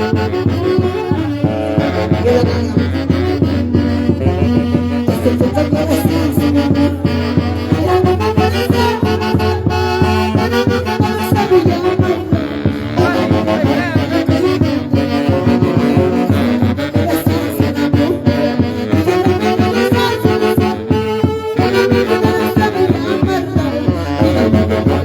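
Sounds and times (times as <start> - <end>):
dance band music with horns: 0.0 - 25.0.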